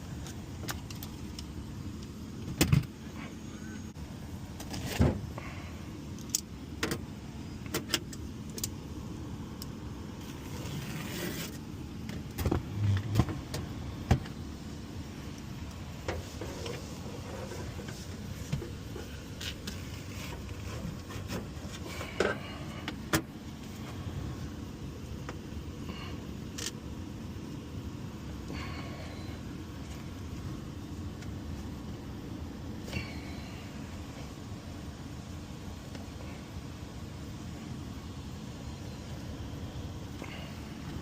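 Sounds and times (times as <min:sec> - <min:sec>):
air conditioner humming: 0:00.0 - 0:41.0.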